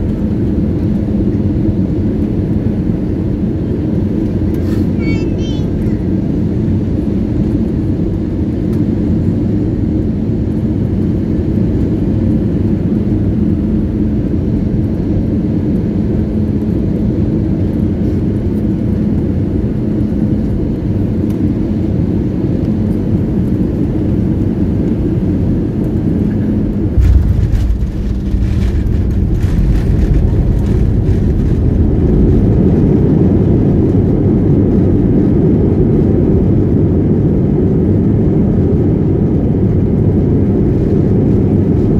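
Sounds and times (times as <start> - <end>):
aircraft rumble on runway: 0.0 - 41.9
jet engine and airflow drone: 0.0 - 41.9.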